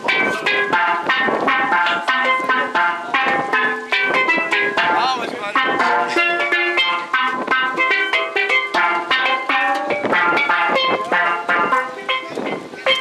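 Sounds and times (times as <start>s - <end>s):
steel pans played with mallets: 0.0s - 13.0s.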